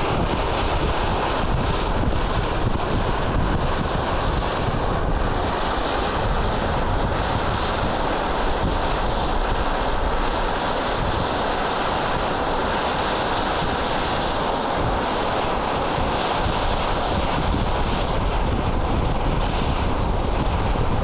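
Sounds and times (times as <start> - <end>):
steam vent hissing: 0.0 - 21.0
wind rumble on microphone: 0.0 - 21.0.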